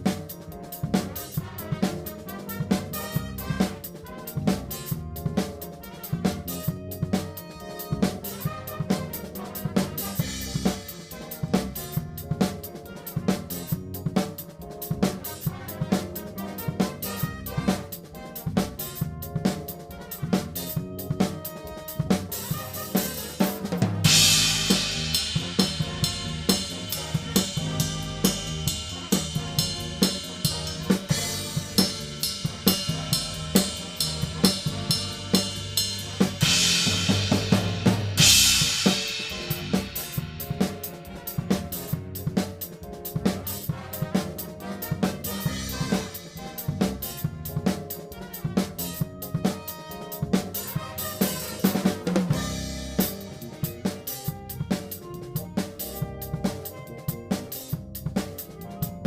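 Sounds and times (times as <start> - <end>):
big band playing: 0.0 - 59.0.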